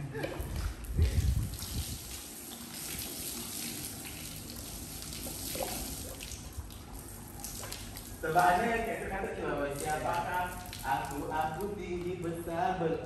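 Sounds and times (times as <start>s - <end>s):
water trickling from wrung towel: 0.2s - 12.5s.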